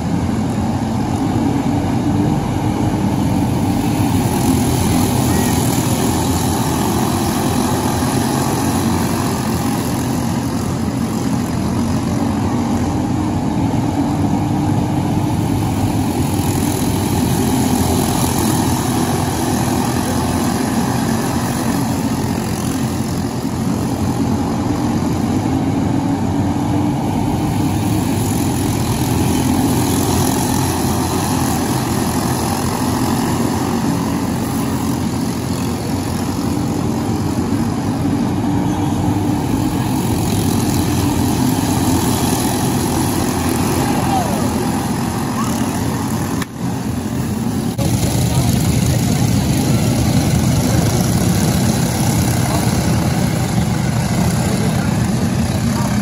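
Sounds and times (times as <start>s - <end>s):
racing kart engines droning: 0.0s - 56.0s.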